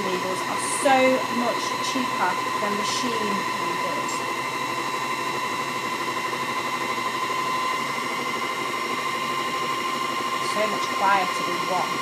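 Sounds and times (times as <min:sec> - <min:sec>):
felting machine whining hum: 0:00.0 - 0:12.0.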